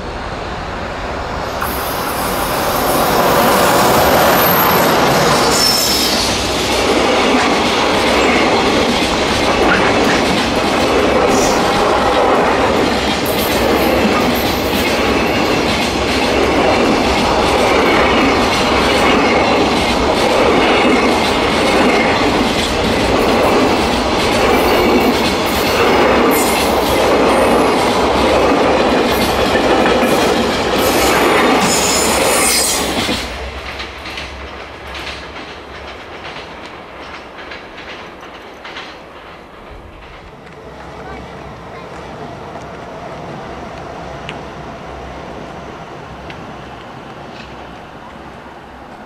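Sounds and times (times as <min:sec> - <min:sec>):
freight wagons rolling on rails: 0:01.6 - 0:42.9.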